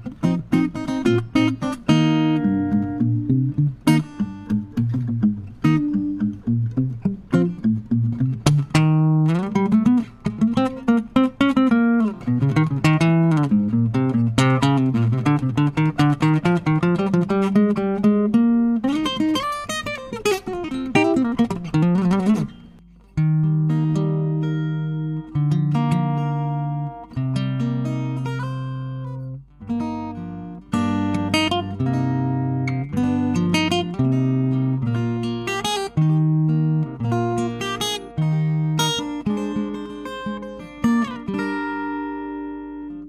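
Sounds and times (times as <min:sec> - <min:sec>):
acoustic guitar playing: 0:00.0 - 0:43.0.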